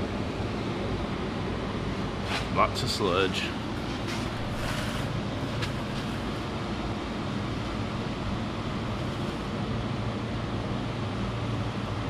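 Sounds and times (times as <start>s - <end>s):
low machine hum with hiss: 0.0s - 12.0s.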